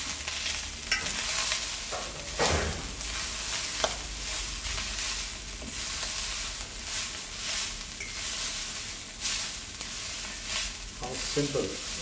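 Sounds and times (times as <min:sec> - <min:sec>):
spatula stirring rice in pan: 0:00.0 - 0:02.4, 0:03.0 - 0:12.0
oil sizzling: 0:00.0 - 0:12.0.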